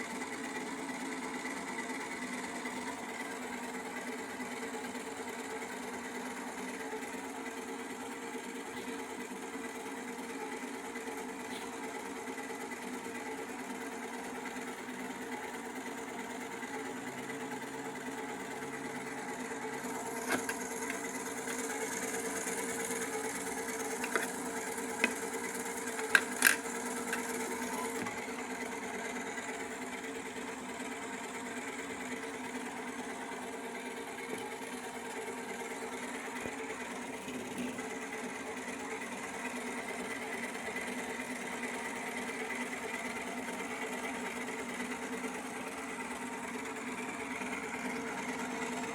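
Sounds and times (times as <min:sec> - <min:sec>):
small electric motor humming: 0:00.0 - 0:48.9.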